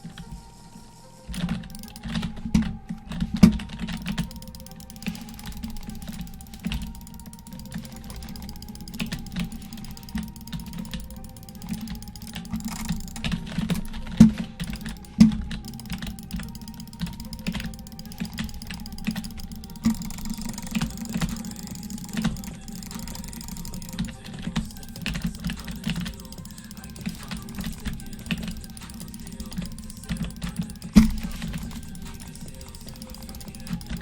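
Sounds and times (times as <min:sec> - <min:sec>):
quick irregular clicking: 0:00.0 - 0:34.0.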